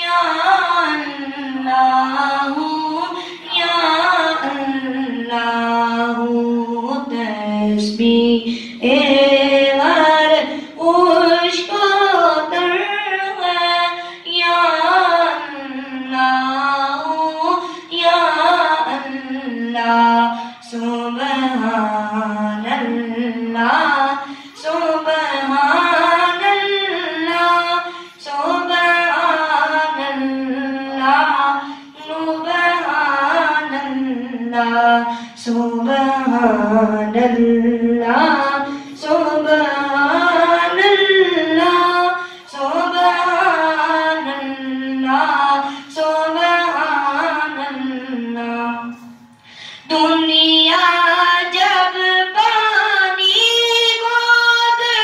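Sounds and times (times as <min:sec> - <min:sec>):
boy singing into a microphone: 0:00.0 - 0:55.0.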